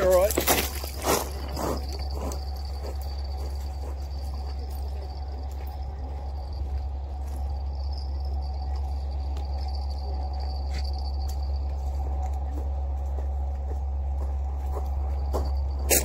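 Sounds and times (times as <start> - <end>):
insect chorus: 0.0 - 13.1
low rumble: 0.0 - 16.0.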